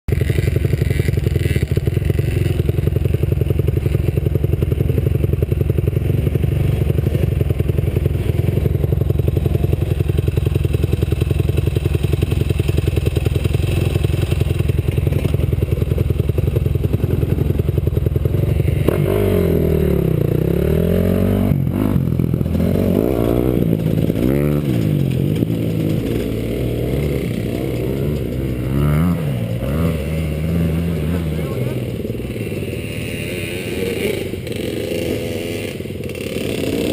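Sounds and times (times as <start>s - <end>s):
dirt bike engine revving: 0.1s - 36.9s.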